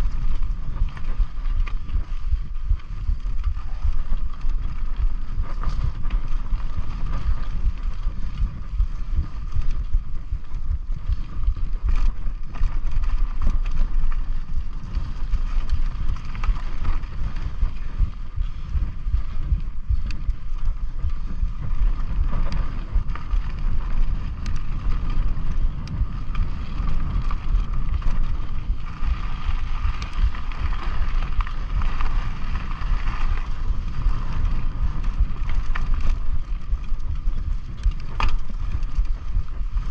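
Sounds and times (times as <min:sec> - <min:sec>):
tyre and trail rumble: 0:00.0 - 0:39.9
wind buffeting microphone: 0:00.0 - 0:39.9.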